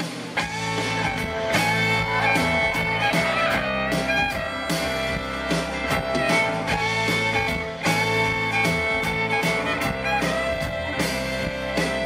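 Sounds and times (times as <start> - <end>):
steady beat: 0.0 - 12.0
pedal steel guitar gliding notes: 0.4 - 12.0.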